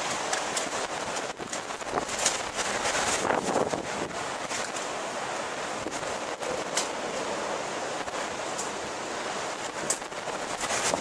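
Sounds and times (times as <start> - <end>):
rain: 0.0 - 11.0
storm wind: 0.0 - 11.0.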